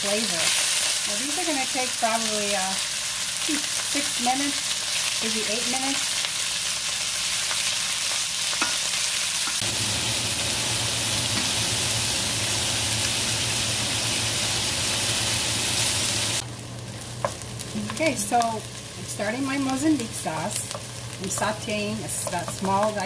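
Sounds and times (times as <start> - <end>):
chicken sizzling on grill pan: 0.0 - 23.0.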